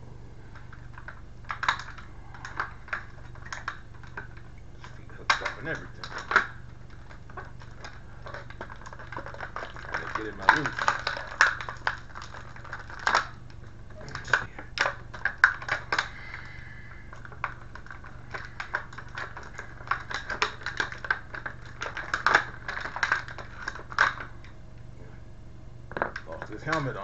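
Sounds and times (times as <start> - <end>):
plastic packaging crackling: 0.5 - 24.5, 25.9 - 27.0.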